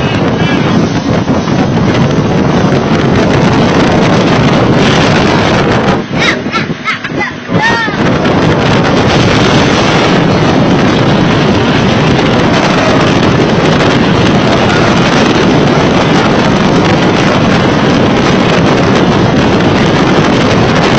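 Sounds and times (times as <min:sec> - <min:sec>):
wind rushing over microphone: 0:00.0 - 0:20.9.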